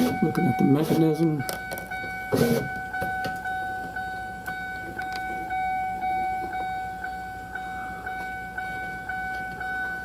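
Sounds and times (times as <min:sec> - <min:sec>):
car warning chime pulsing: 0:00.0 - 0:10.0.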